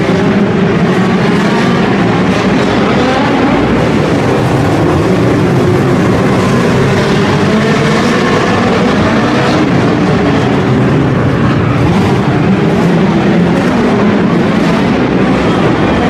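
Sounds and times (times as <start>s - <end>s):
race car engines droning: 0.0s - 16.0s.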